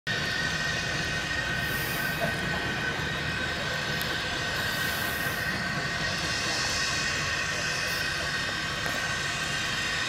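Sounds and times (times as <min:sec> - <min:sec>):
train rumbling: 0:00.1 - 0:10.0.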